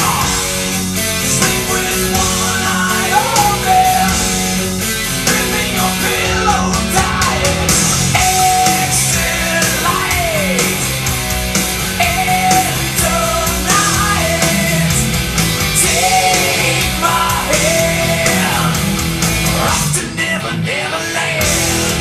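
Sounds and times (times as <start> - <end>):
heavy metal over loudspeakers: 0.0 - 22.0.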